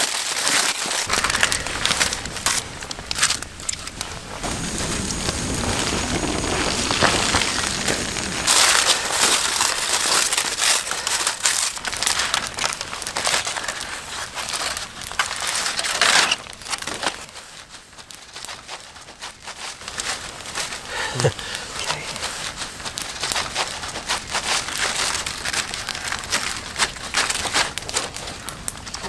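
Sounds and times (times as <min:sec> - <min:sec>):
aluminium foil crinkling: 0:00.0 - 0:29.0.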